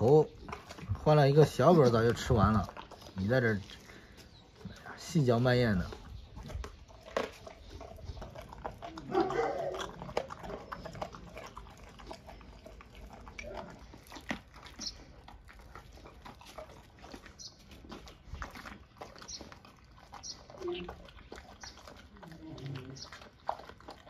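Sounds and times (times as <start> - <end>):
dog chewing wet crunches: 0.0 - 24.0.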